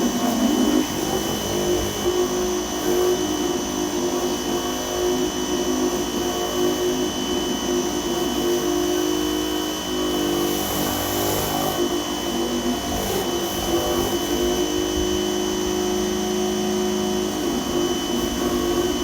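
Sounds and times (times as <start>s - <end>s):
pressure washer motor whine: 0.0s - 19.0s.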